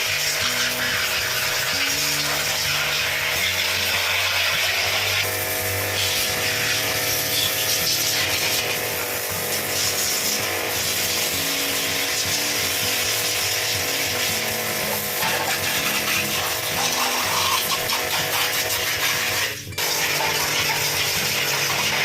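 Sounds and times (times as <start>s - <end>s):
motor-driven tool running: 0.0s - 22.0s.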